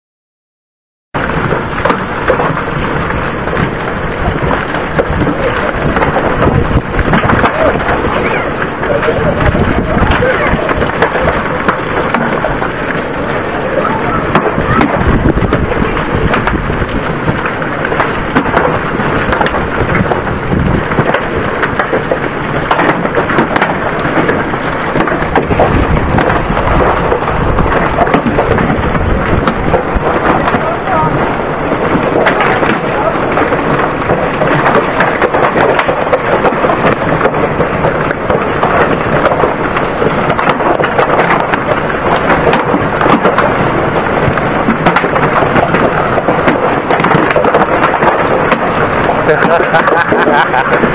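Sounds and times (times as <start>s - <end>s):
heavy hail pelting down: 1.2s - 50.9s.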